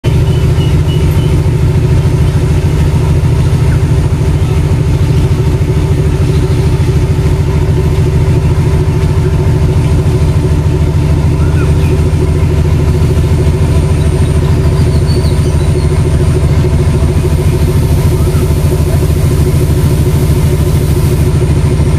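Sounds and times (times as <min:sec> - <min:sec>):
diesel locomotive idling: 0:00.0 - 0:21.9.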